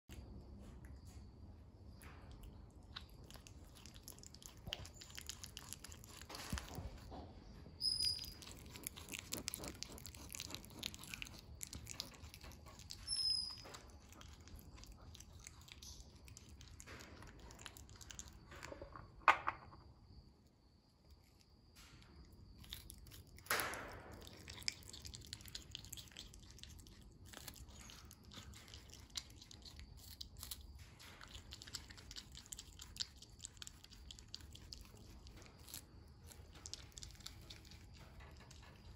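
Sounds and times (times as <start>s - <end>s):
porcupine chewing and crunching food: 1.9s - 19.1s, 21.1s - 38.9s.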